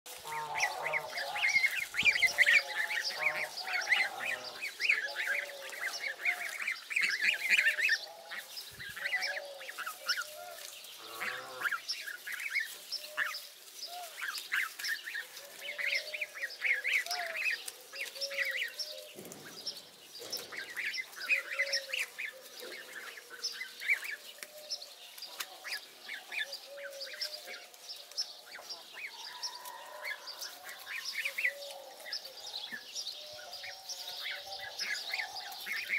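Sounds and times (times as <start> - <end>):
goslings peeping: 0.1 - 24.2, 25.2 - 35.9.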